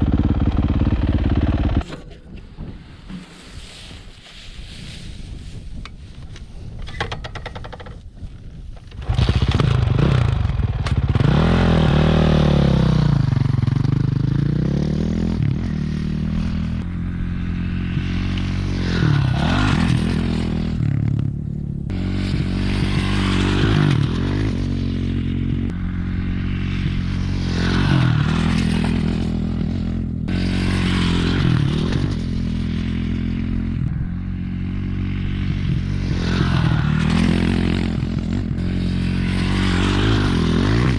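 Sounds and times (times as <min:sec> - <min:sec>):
dirt bike engine revving: 0:00.0 - 0:01.9, 0:09.0 - 0:40.9.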